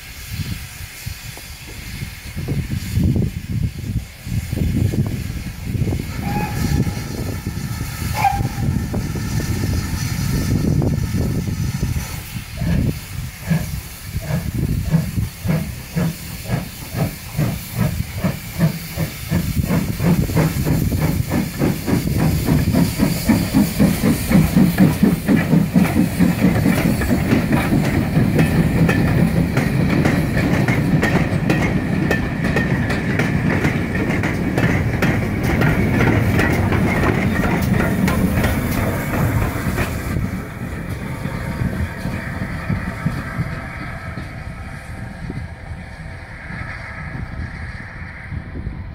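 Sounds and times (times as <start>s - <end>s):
steam hiss: 0.0s - 48.9s
steam locomotive exhaust chuffing: 0.0s - 48.9s.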